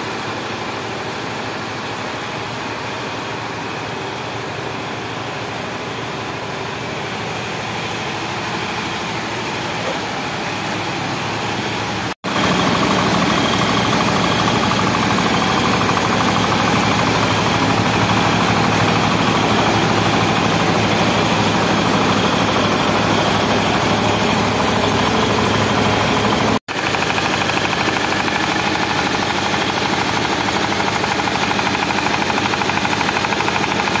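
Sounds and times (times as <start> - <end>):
mill machinery droning: 0.0 - 34.0.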